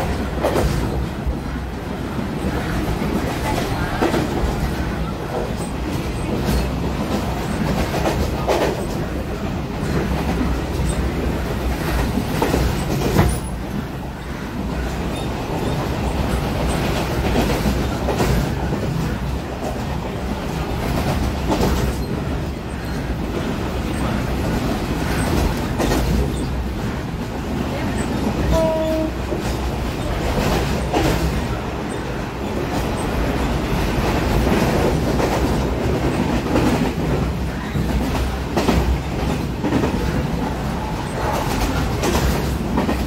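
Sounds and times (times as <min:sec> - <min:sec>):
train wheels rumbling on rails: 0:00.0 - 0:43.0
wheels clacking over rail joints: 0:00.0 - 0:43.0.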